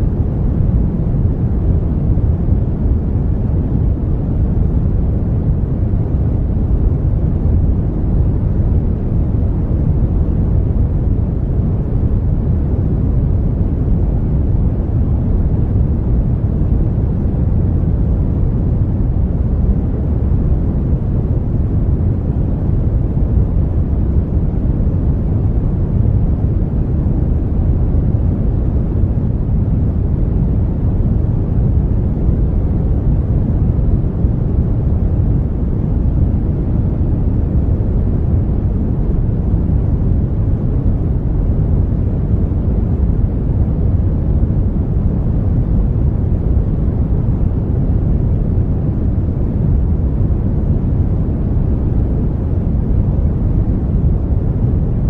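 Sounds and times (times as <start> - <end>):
deep rushing brown noise: 0.0 - 55.0.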